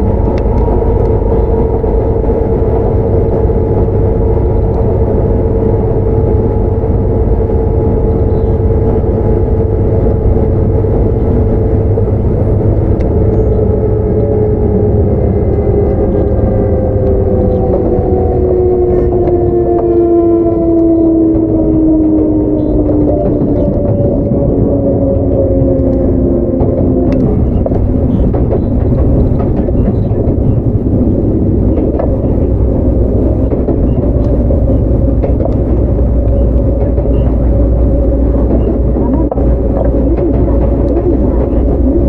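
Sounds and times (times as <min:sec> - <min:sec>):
traction motor whine: 0:00.0 - 0:42.0
train wheels rumbling on rail: 0:00.0 - 0:42.0.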